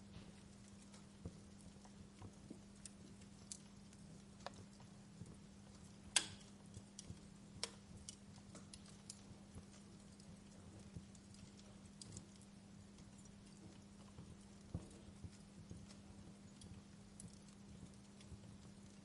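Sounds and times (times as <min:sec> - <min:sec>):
faint steady hiss: 0:00.0 - 0:19.0
wood fire crackling: 0:00.0 - 0:19.0.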